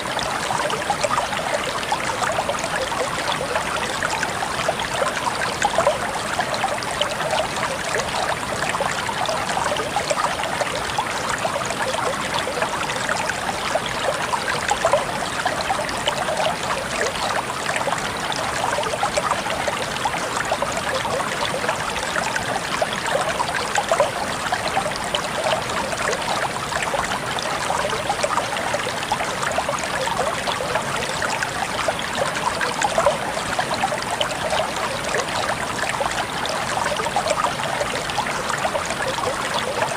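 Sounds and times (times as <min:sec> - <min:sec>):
stream water babbling over rocks: 0:00.0 - 0:39.9.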